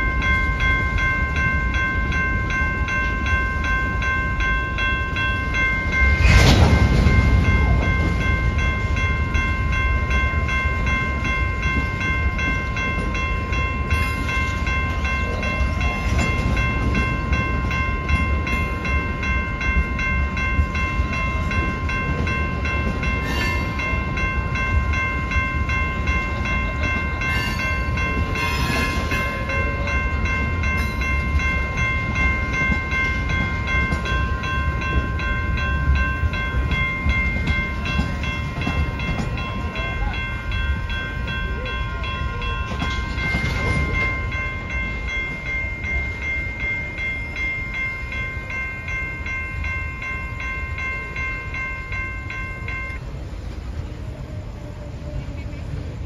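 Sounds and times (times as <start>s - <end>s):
continuous ringing tone: 0.0s - 56.0s
train rumbling past: 0.0s - 56.0s.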